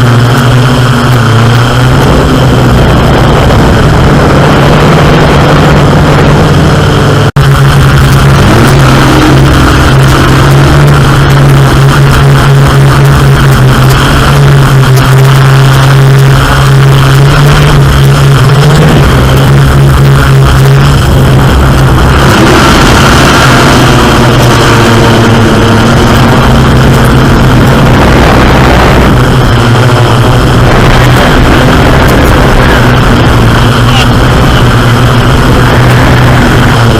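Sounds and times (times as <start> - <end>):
airboat engines droning: 0.0 - 36.9.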